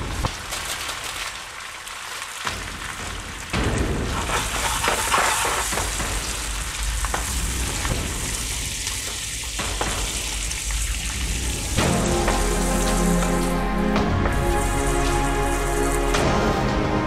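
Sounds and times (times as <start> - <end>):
spinach sizzling in frying pan: 0.0 - 16.4.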